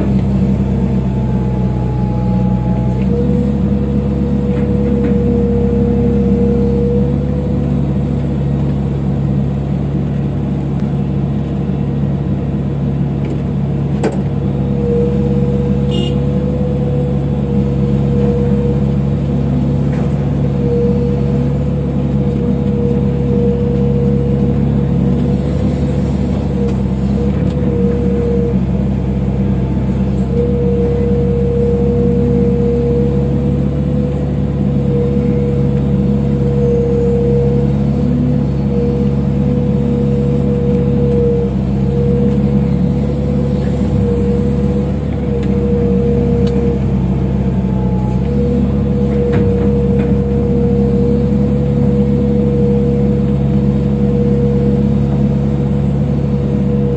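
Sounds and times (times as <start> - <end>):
excavator diesel engine droning: 0.0 - 56.9
steady engine whine: 0.0 - 56.9.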